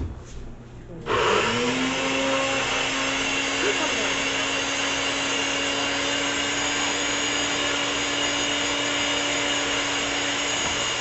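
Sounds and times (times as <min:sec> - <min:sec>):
electric blender running: 0:01.0 - 0:11.0.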